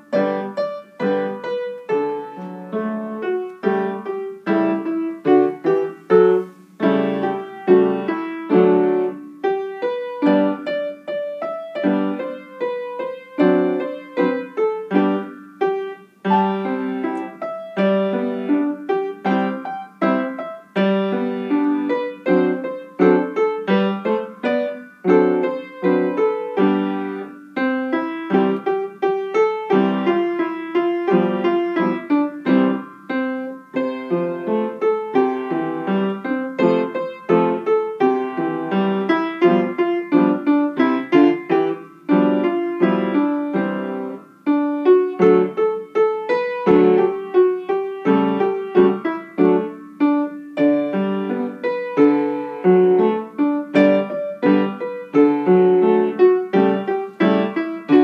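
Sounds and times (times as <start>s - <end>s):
solo piano tune: 0.0s - 58.0s.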